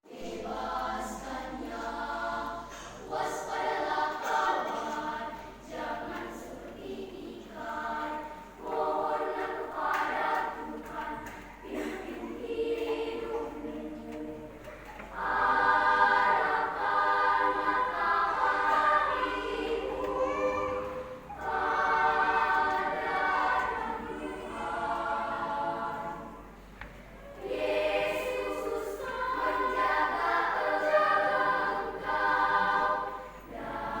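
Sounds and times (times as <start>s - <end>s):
children's choir singing: 0.0s - 34.0s.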